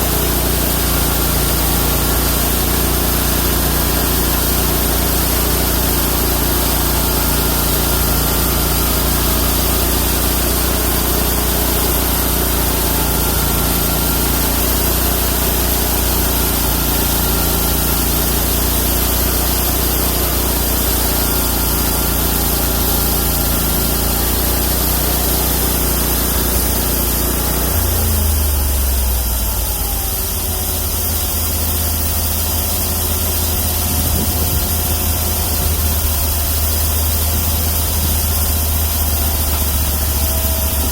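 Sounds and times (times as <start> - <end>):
band blade cutting log: 0.0 - 40.9
sawmill engine running: 0.0 - 40.9.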